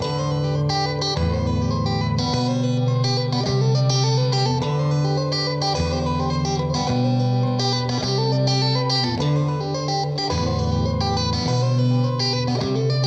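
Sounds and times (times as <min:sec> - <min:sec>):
electric guitar music: 0:00.0 - 0:13.0.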